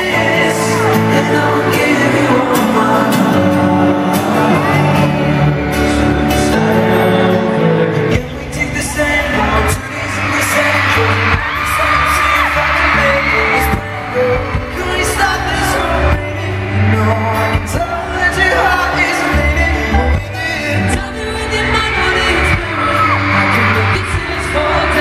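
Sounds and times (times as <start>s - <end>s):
live pop band: 0.0s - 25.0s
man singing: 0.0s - 25.0s
steady bass: 0.0s - 25.0s.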